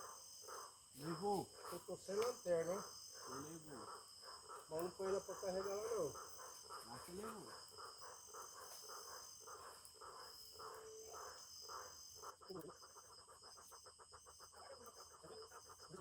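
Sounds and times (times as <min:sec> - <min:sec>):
crickets chirping: 0:00.0 - 0:16.0
faint low rhythmic pulsing: 0:00.0 - 0:16.0.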